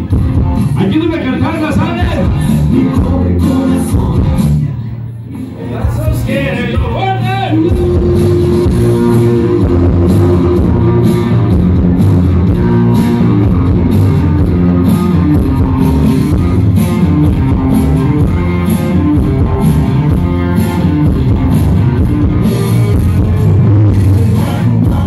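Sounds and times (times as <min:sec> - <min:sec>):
loud dance music: 0:00.0 - 0:25.0.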